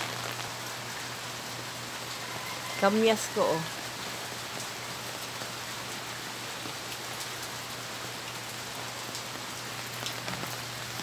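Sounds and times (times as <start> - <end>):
rain on concrete and plants: 0.0 - 11.0.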